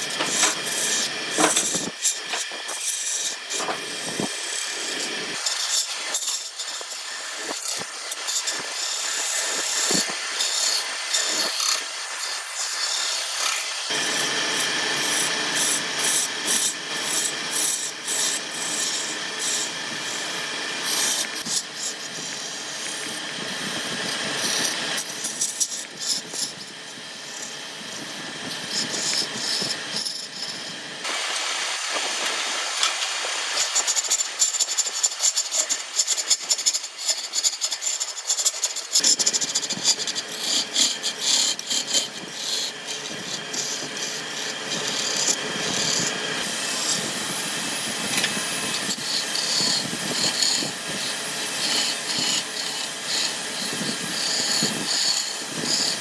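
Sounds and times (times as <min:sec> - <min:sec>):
tool scraping wood: 0:00.0 - 0:56.0.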